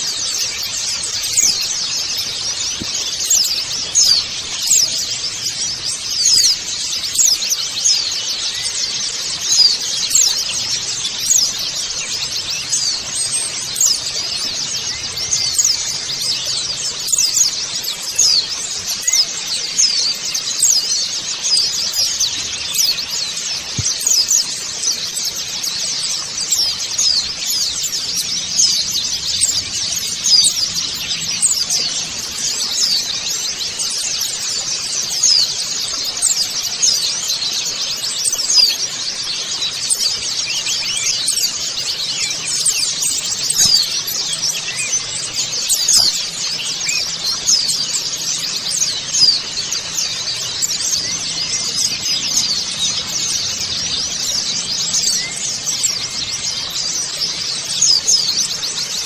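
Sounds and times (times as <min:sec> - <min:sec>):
small birds chirping and twittering: 0:00.0 - 0:59.0.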